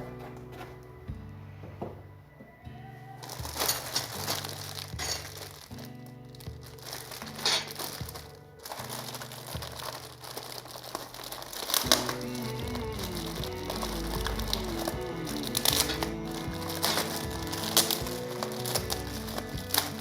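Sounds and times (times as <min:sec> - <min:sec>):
background music: 0:00.0 - 0:20.0
packaging crinkling and rustling: 0:03.2 - 0:20.0.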